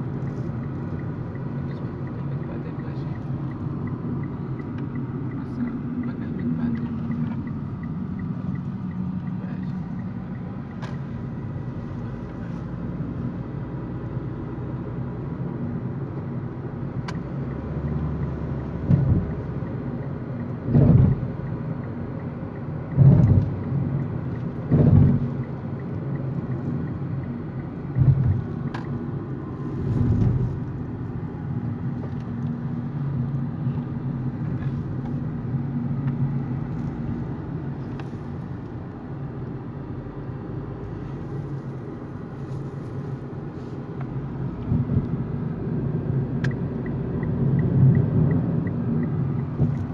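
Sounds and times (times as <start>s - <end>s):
car engine and road rumble: 0.0s - 49.9s.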